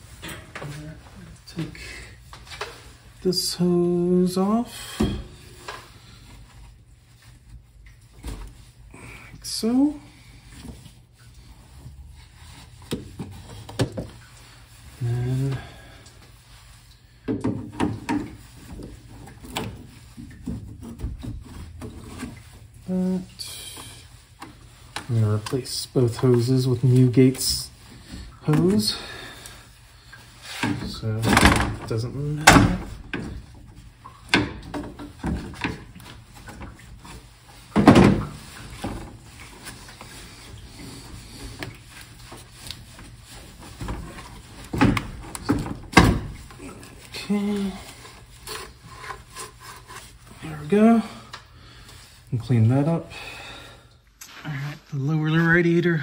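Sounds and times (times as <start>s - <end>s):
rubber hose rubbing: 0.0s - 52.9s.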